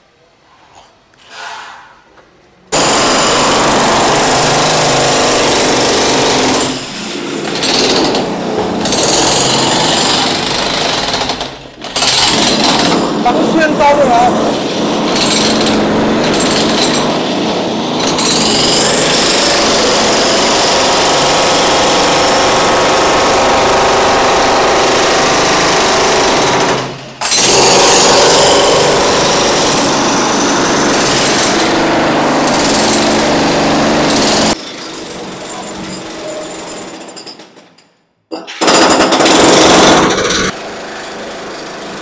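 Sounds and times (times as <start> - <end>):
jackhammer running: 2.8 - 37.4, 38.6 - 42.0.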